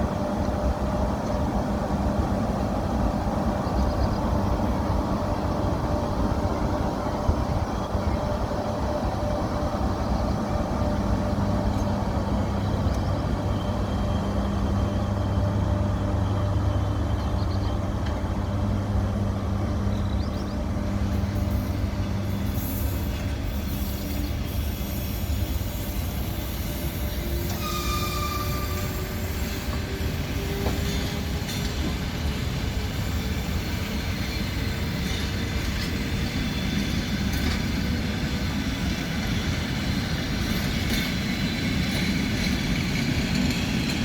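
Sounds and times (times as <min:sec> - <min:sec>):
electric locomotive hum: 0:00.0 - 0:44.0.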